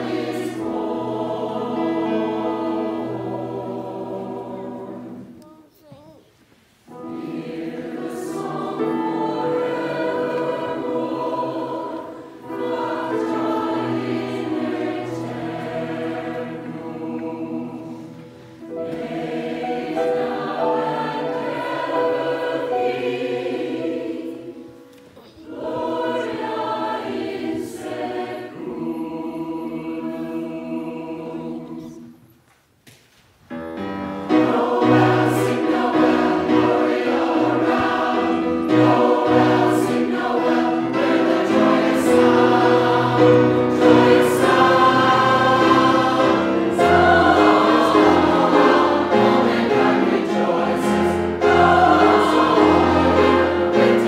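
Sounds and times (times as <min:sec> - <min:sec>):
mixed choir singing: 0:00.0 - 0:05.4, 0:06.9 - 0:32.3, 0:34.1 - 0:54.0.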